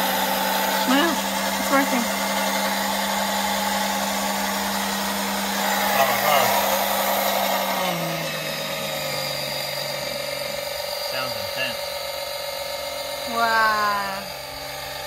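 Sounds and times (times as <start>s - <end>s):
electric pump humming: 0.0s - 15.0s.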